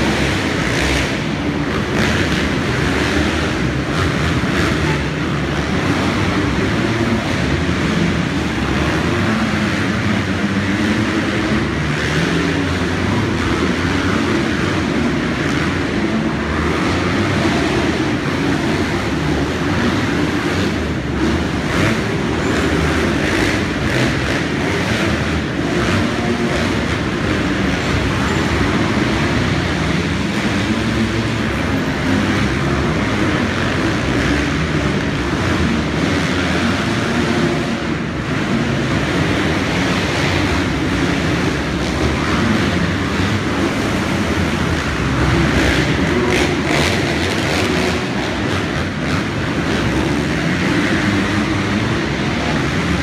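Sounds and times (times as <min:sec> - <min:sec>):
motocross bike engines racing: 0:00.0 - 0:53.0.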